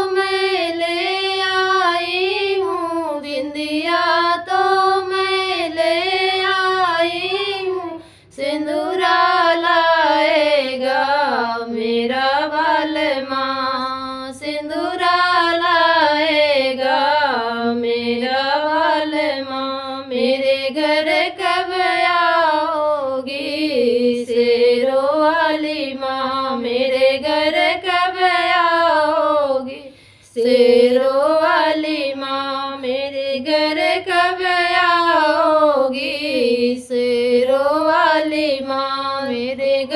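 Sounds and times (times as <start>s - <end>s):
women singing devotional song: 0.0s - 39.9s.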